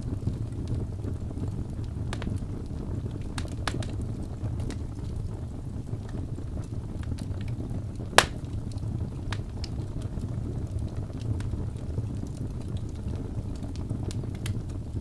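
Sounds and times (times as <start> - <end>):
fire crackling: 0.2 - 15.0
fire popping: 0.6 - 15.0.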